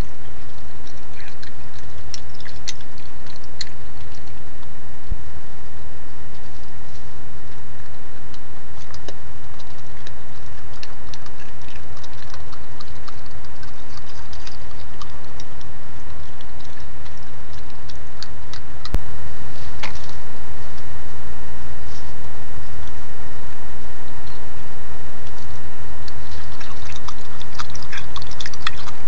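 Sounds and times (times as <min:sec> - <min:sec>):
raccoon feeding clicks: 0:00.0 - 0:05.2, 0:06.1 - 0:19.0, 0:19.6 - 0:20.9, 0:22.6 - 0:23.0, 0:25.2 - 0:29.0
low electrical hum: 0:00.0 - 0:29.0.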